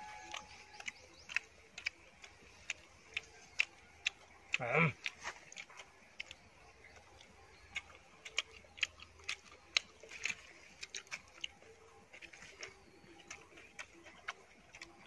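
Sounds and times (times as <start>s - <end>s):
chicken tearing and chewing: 0.0s - 15.0s.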